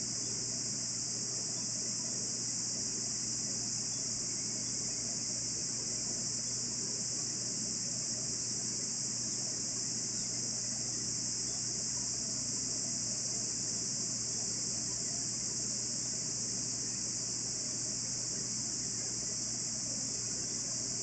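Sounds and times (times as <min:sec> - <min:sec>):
cicadas shrilling: 0:00.0 - 0:21.0
faint low hum: 0:00.0 - 0:21.0.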